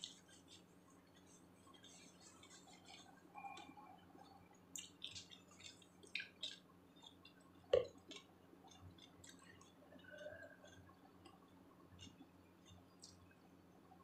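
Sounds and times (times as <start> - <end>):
crunchy chewing: 0.0 - 13.4.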